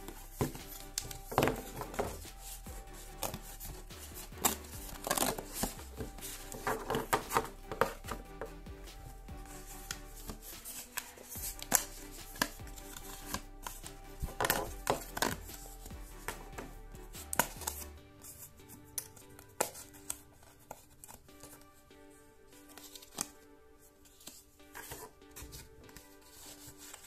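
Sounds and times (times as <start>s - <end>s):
quiet background music: 0.0s - 27.0s.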